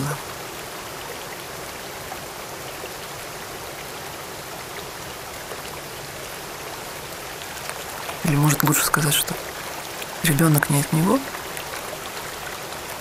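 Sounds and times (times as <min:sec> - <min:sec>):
water rushing over a weir: 0:00.0 - 0:13.0.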